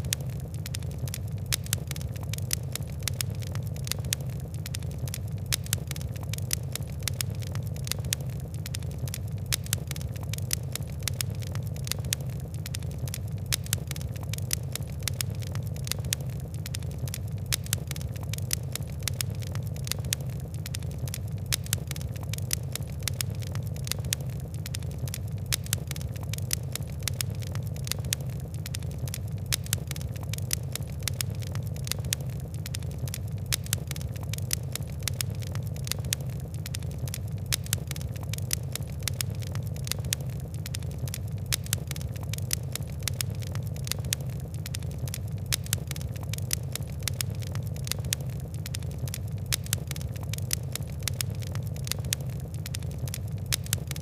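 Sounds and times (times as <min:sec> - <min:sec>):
fire crackling: 0:00.0 - 0:54.0
low rumble of burning: 0:00.0 - 0:54.0.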